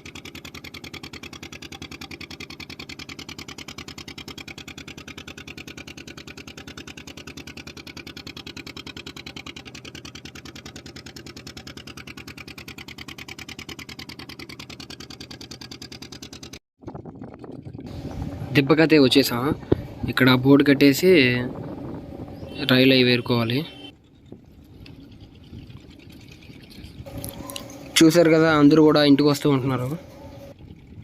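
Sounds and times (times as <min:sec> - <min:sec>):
boat engine pulsing: 0:00.0 - 0:31.0.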